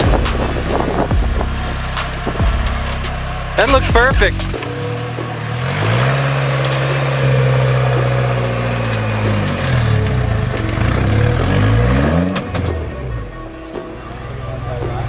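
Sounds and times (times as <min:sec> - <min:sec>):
buggy engine revving under load: 0:00.0 - 0:15.0.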